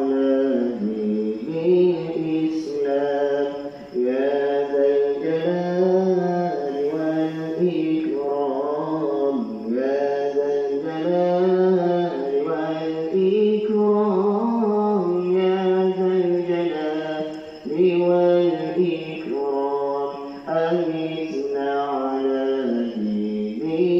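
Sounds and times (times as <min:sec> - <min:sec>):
man chanting over loudspeakers: 0:00.0 - 0:23.9.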